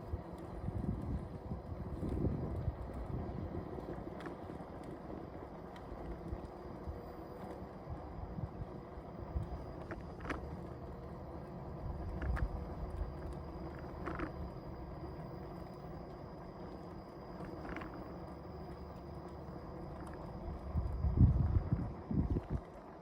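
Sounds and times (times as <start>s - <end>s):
faint high whine: 0.0s - 23.0s
wind and tyre rumble: 0.0s - 23.0s.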